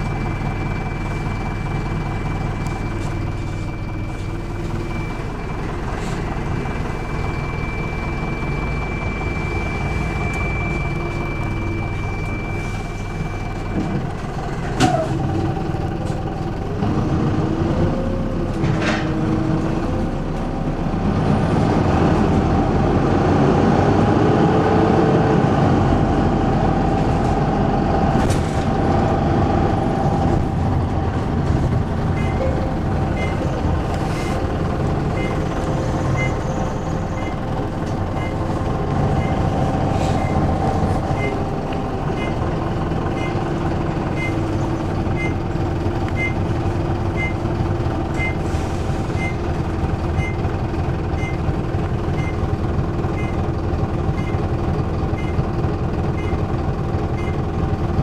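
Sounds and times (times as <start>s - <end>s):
bus body rattles: 0.0s - 17.5s, 18.4s - 20.6s, 26.7s - 58.0s
bus diesel engine: 0.0s - 58.0s.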